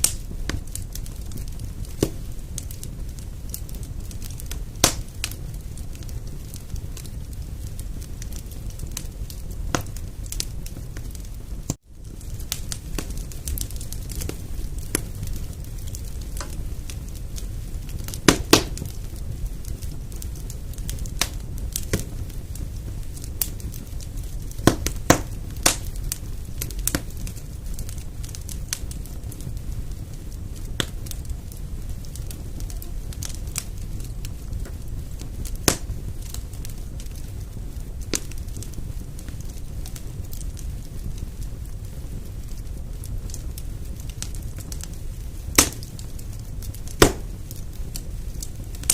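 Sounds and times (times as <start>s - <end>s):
wood fire crackling and popping: 0.0s - 48.9s.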